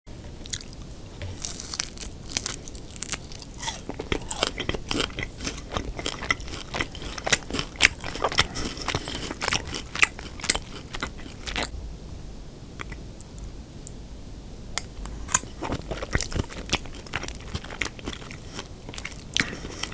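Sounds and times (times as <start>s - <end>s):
crunching fried food: 0.3s - 11.7s, 14.8s - 19.9s.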